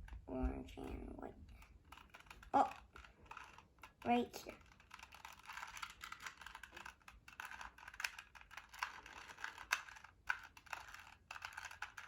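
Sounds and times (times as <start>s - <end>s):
puzzle cube plastic clicks: 1.4s - 12.0s.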